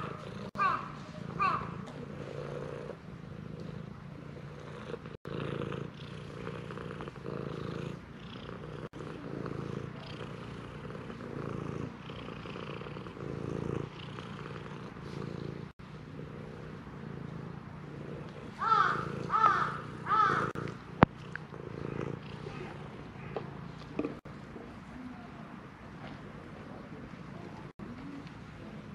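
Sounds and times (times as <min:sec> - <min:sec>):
cat purring: 0:00.0 - 0:24.3.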